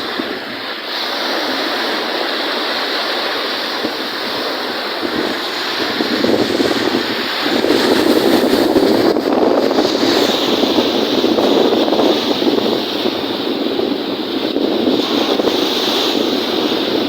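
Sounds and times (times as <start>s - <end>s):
waves on a lake: 0.0s - 17.0s
wind on microphone: 0.0s - 17.0s.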